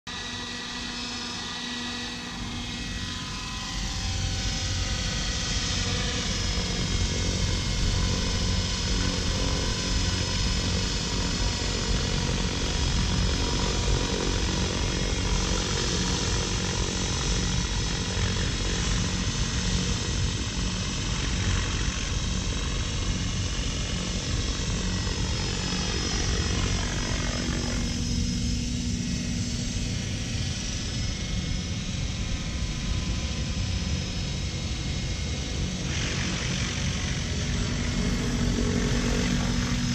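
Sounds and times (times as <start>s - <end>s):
model helicopter rotor whine: 0.1s - 39.9s.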